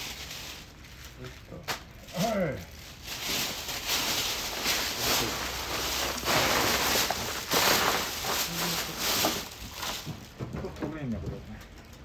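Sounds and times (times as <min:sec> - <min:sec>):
plastic rubbish bag rustling: 0:00.0 - 0:11.0.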